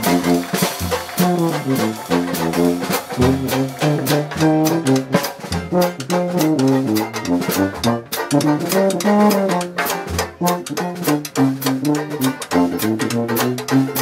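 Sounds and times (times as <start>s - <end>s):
drum kit with cymbals: 0.0s - 14.0s
trombone: 0.0s - 14.0s
tuba: 0.0s - 14.0s.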